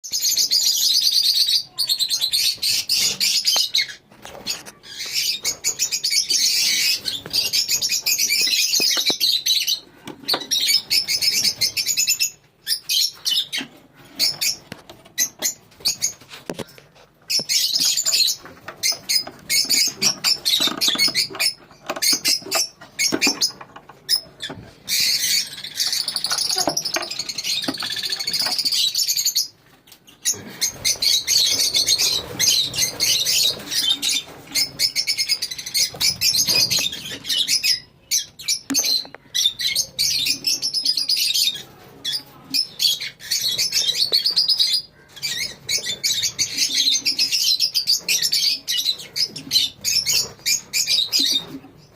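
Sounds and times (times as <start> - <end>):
lovebirds chattering: 0.1 - 51.9.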